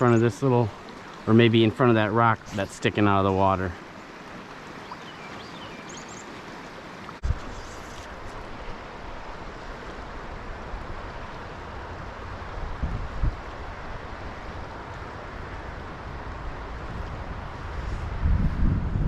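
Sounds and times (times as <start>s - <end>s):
stream water rushing: 0.0s - 18.4s.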